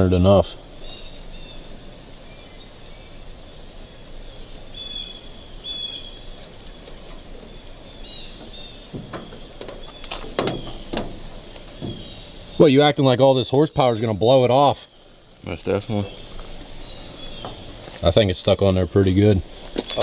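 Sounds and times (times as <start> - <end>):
birds chirping: 0.0 - 20.0
outdoor background noise: 0.0 - 20.0.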